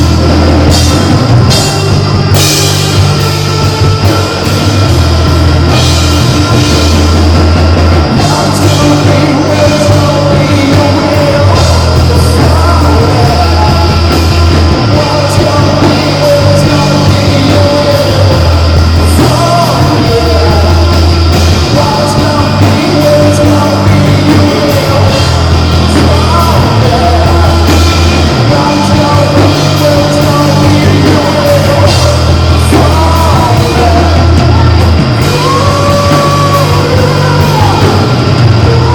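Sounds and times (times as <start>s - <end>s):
heavy bass line: 0.0s - 38.9s
live rock band playing: 0.0s - 38.9s.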